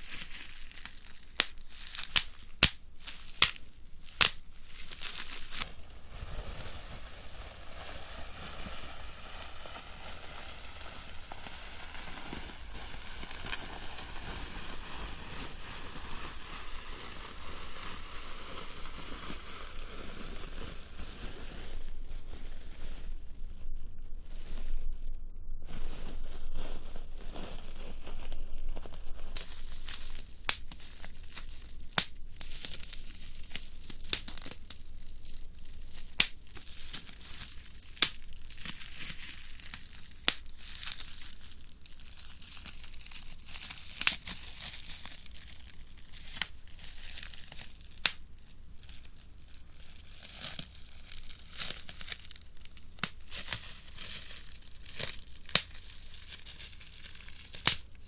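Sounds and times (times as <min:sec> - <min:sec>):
bubble wrap cells popping: 0:00.0 - 0:58.0
bubble wrap crinkling: 0:00.0 - 0:58.0.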